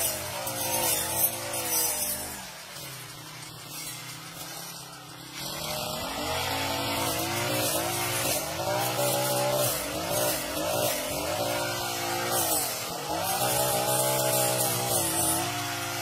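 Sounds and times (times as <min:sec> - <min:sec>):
brush cutter engine revving: 0:00.0 - 0:16.0.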